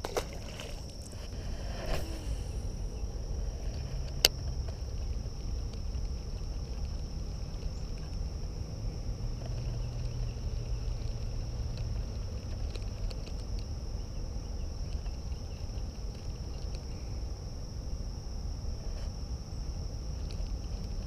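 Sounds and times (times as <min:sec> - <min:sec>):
high-pitched insect trill: 0:00.0 - 0:21.0
low rumble: 0:00.0 - 0:21.0.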